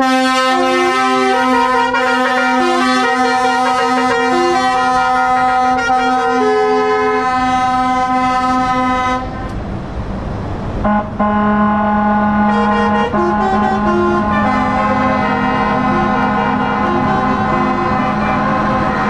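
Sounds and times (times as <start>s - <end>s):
musical truck horn tune: 0.0s - 9.5s, 10.8s - 19.0s
road and engine noise: 0.0s - 19.0s.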